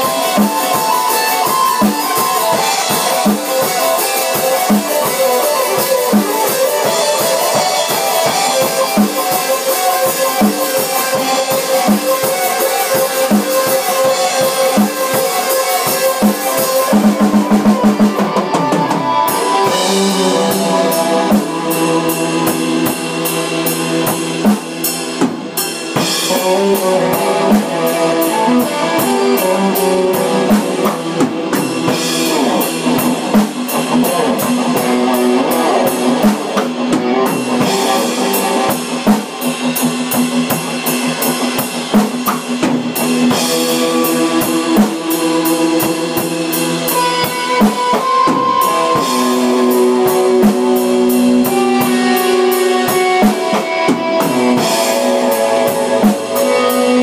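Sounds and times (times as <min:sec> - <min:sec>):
live band with drums and guitar: 0:00.0 - 0:57.0
rapid drum fill: 0:00.0 - 0:57.0.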